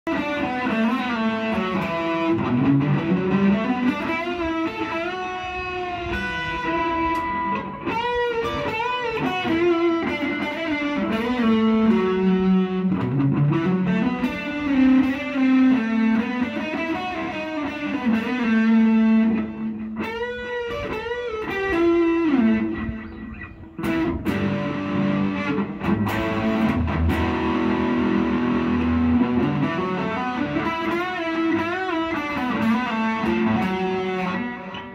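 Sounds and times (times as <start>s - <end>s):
electric guitar lead: 0.1s - 34.9s.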